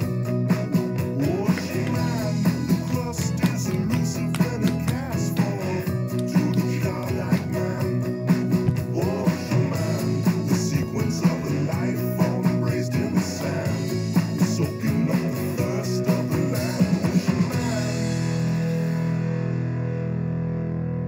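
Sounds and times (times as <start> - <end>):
rock music with guitar: 0.0 - 21.0.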